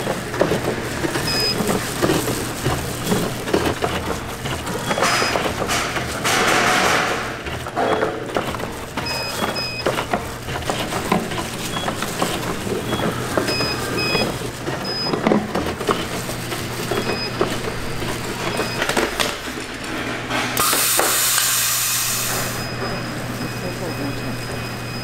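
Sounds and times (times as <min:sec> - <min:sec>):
machinery clatter and clicks: 0:00.0 - 0:25.0
machinery humming: 0:00.0 - 0:25.0.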